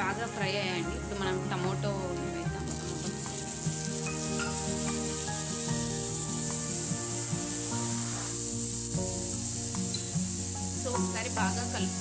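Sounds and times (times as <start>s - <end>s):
background music: 0.0s - 12.0s
vegetables sizzling in a pan: 0.0s - 12.0s.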